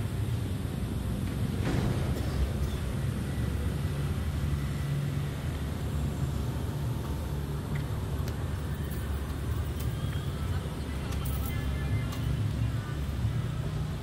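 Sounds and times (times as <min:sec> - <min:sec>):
engine-like hum: 0:00.0 - 0:14.0
road traffic rumble: 0:00.0 - 0:14.0.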